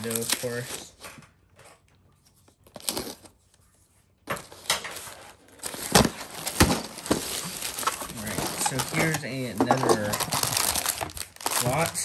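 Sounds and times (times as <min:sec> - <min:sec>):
plastic packaging rustling: 0:00.0 - 0:03.2, 0:04.4 - 0:12.0.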